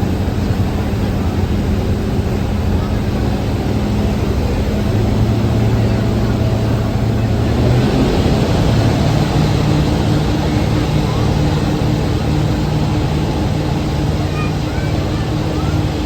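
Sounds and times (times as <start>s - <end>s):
boat engine drone: 0.0s - 16.0s
rushing water wash: 0.0s - 16.0s
wind: 0.0s - 16.0s.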